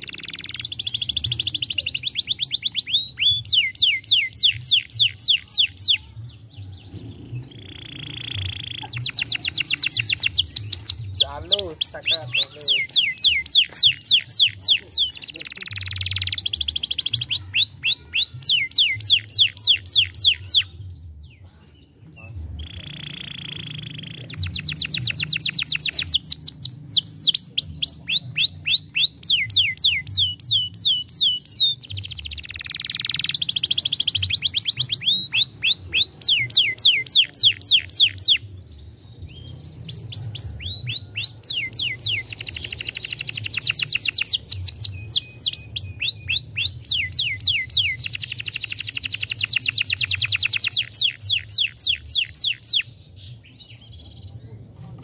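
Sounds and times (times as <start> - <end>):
canary singing trills: 0.0 - 54.7.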